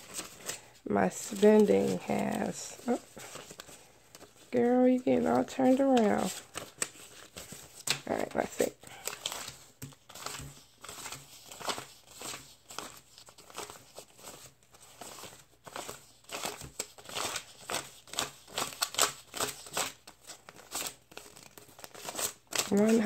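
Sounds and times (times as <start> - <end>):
banknotes rustling and flicking: 0.0 - 23.0.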